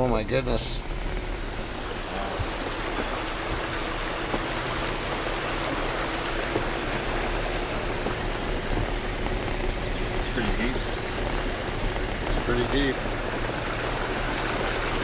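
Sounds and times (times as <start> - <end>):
faint engine hum: 0.0 - 15.0
water rushing and splashing: 0.0 - 15.0.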